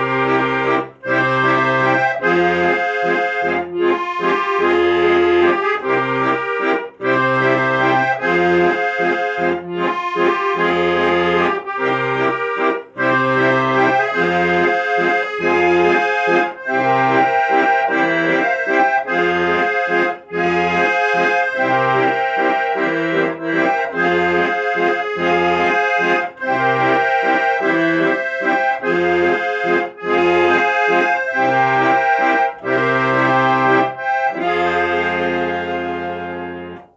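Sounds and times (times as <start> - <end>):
accordion melody: 0.0 - 36.9.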